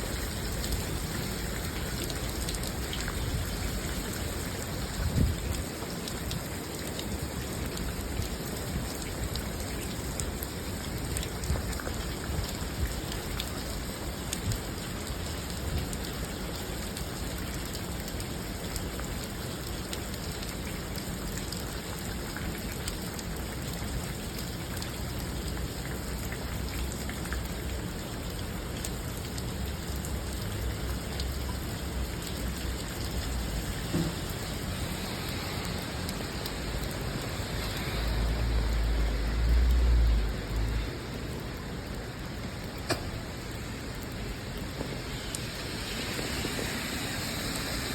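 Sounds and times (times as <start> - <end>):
raindrops ticking on a surface: 0.0 - 47.9
steady rainfall hiss: 0.0 - 47.9.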